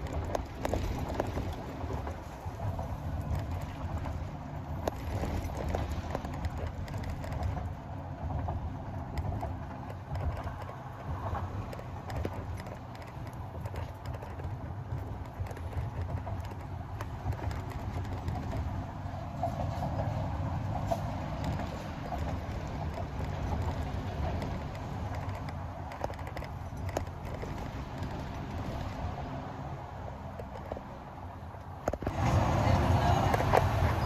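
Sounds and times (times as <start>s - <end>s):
car road rumble: 0.0s - 34.0s.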